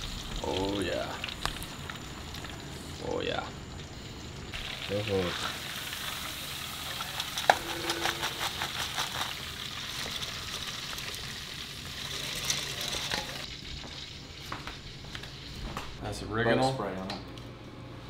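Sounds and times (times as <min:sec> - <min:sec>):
meat sizzling in hot oil: 0:00.0 - 0:16.0
oil crackling: 0:00.0 - 0:16.0.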